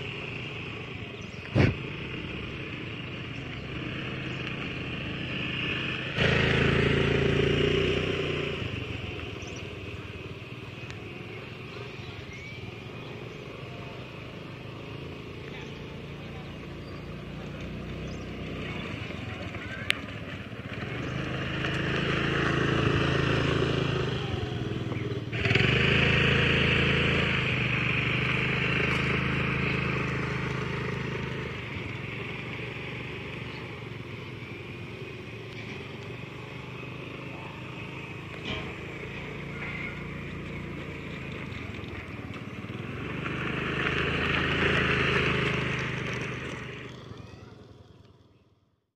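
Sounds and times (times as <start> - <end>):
scooter engine running: 0.0 - 48.9.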